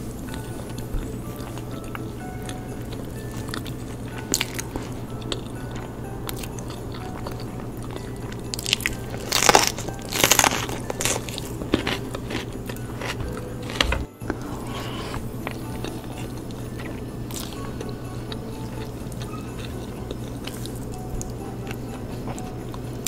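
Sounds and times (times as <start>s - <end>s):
chewing and crunching food: 0.0s - 23.0s
steady low hum: 0.0s - 23.0s.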